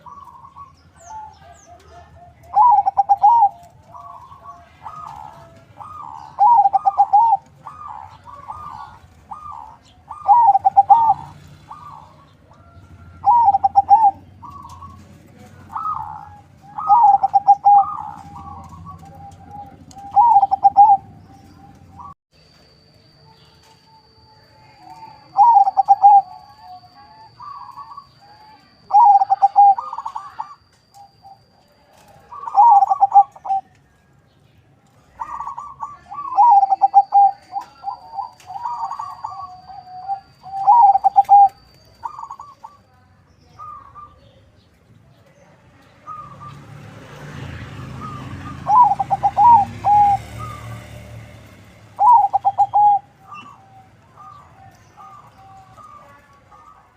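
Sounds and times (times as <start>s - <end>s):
dove cooing: 0.0s - 22.2s, 24.7s - 33.7s, 35.0s - 44.4s, 46.0s - 46.6s, 47.9s - 51.2s, 51.8s - 56.9s.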